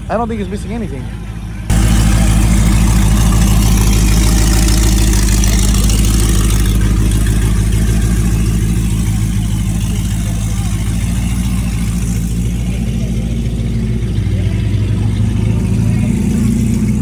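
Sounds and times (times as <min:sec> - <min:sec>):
car engine idling loudly: 0:00.0 - 0:17.0.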